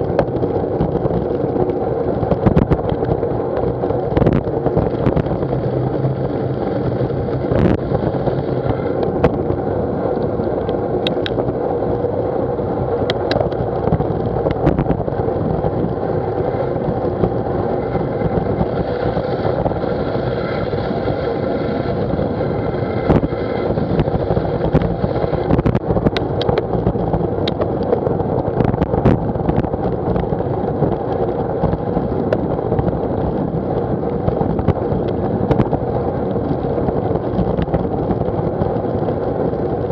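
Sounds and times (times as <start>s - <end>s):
road noise: 0.0s - 39.9s
wind rushing: 0.0s - 39.9s.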